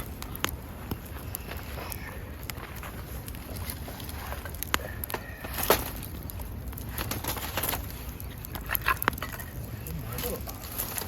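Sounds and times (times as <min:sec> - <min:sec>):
sharp pops of fire: 0:00.0 - 0:11.0
wood fire crackling: 0:00.0 - 0:11.0.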